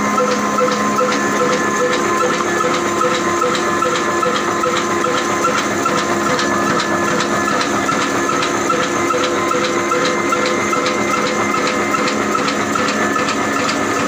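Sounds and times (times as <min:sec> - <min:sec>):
oil engine hiss and clatter: 0:00.0 - 0:14.0
regular engine click: 0:00.0 - 0:14.0.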